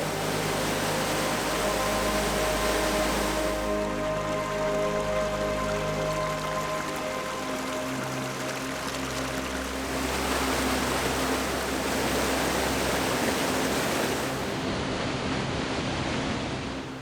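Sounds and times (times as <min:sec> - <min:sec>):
background music: 0:00.0 - 0:14.7
creek water rushing: 0:00.0 - 0:17.0.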